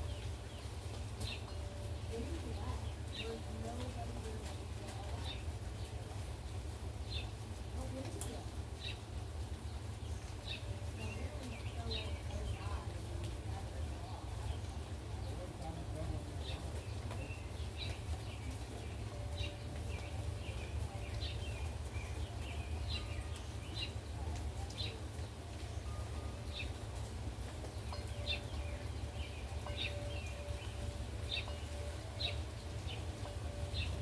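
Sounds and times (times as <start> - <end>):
bird chirping: 0.0 - 6.2, 7.0 - 13.4, 14.0 - 34.0.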